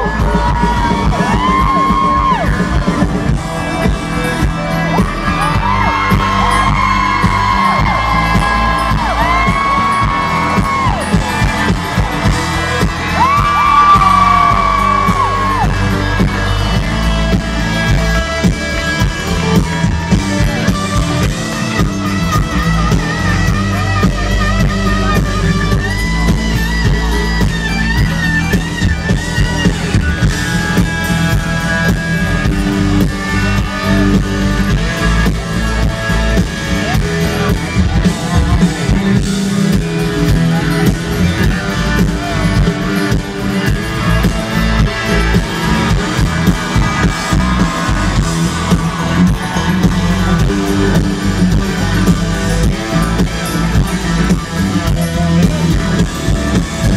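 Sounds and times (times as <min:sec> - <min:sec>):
country band playing: 0:00.0 - 0:56.9.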